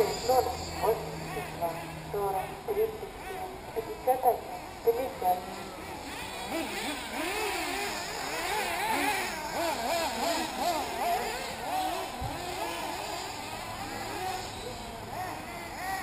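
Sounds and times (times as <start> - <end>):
rc car engines whining: 0.0 - 16.0.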